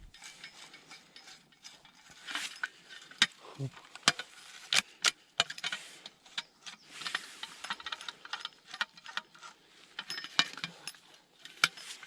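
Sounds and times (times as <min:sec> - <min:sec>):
metal shovel hinge clicks and rattles: 0:00.0 - 0:12.0.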